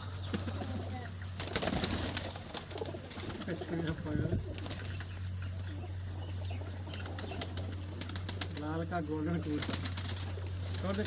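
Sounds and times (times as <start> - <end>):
pigeons cooing: 0.0 - 11.0
steady low hum: 0.0 - 11.0.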